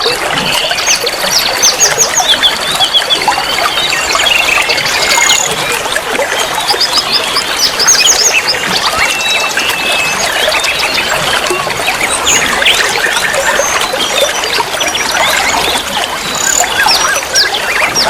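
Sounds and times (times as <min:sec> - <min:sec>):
running water trickling: 0:00.0 - 0:18.0
songbirds chirping and singing: 0:00.0 - 0:18.0.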